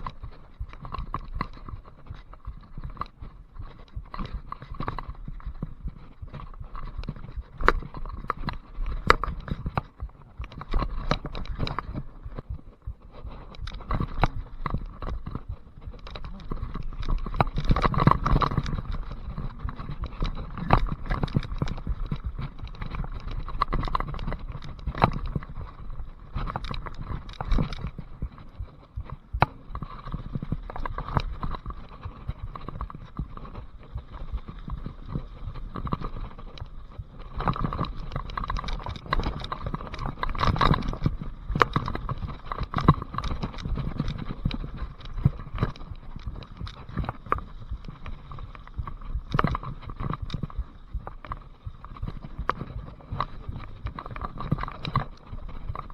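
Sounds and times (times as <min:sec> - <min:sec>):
bike clattering and rattling: 0:00.0 - 0:55.9
wind: 0:00.0 - 0:55.9.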